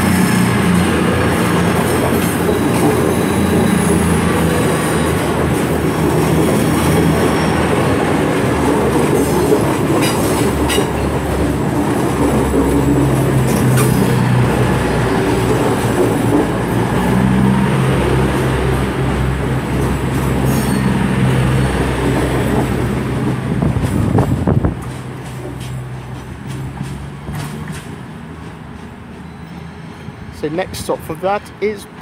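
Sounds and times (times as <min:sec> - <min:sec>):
diesel train engines droning: 0:00.0 - 0:32.0
wheels rumbling on rails: 0:00.0 - 0:32.0.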